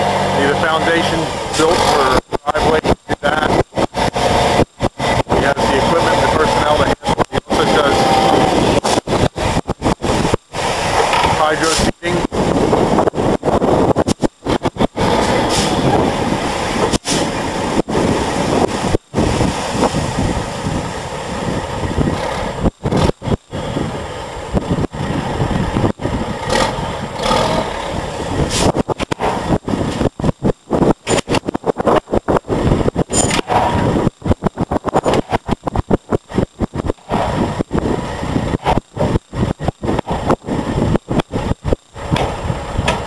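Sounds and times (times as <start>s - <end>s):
diesel truck engine running: 0.0s - 43.0s.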